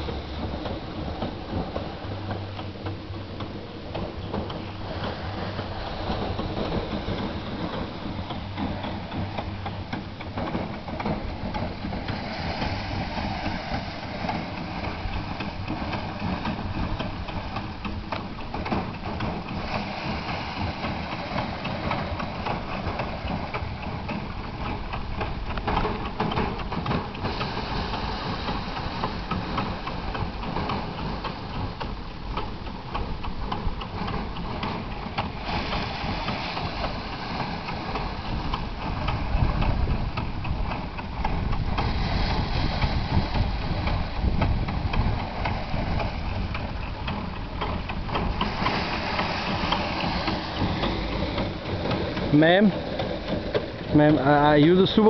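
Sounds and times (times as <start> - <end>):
rice thresher running: 0.0 - 55.0.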